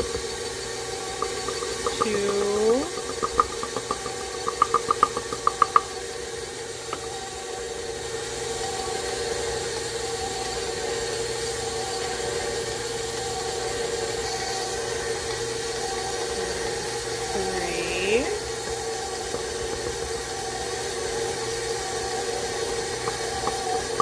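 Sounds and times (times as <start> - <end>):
stand mixer motor hum: 0.0 - 24.0.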